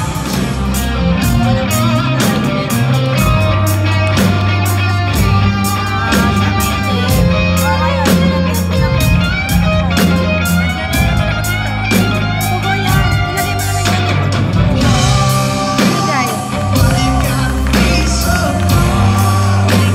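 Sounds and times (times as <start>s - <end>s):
bass guitar: 0.0s - 19.9s
drum kit steady beat: 0.0s - 19.9s
electric guitar bending notes: 0.0s - 19.9s.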